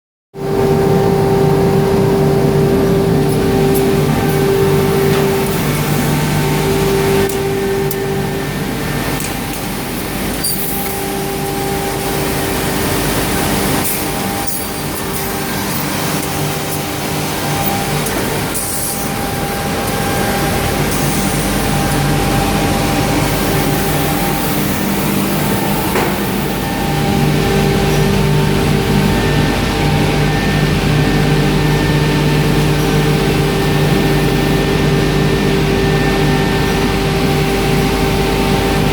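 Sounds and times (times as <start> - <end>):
continuous rushing noise: 0.4 - 38.9
machine motor hum and whine: 0.4 - 38.9.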